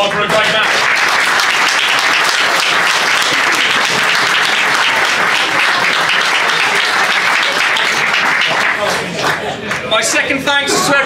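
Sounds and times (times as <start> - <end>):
people applauding: 0.0 - 10.3.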